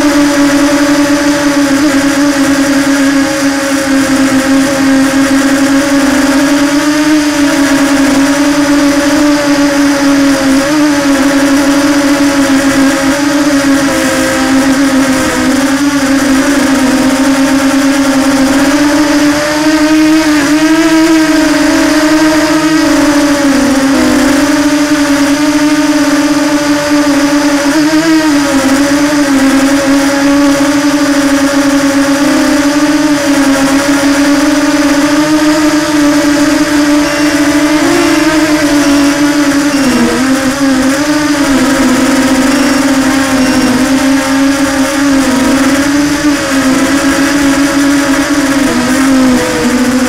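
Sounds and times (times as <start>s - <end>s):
electric motor and propeller whine: 0.0s - 50.0s.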